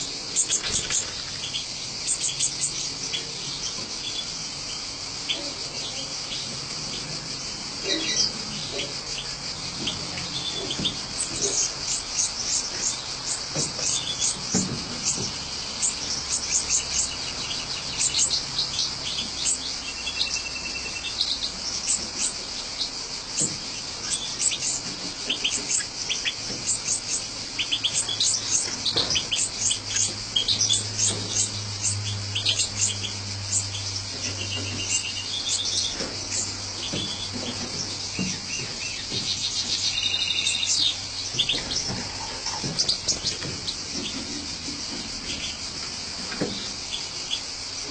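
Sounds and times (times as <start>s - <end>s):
finches chirping and twittering: 0.0s - 47.9s
fledglings begging: 0.0s - 47.9s.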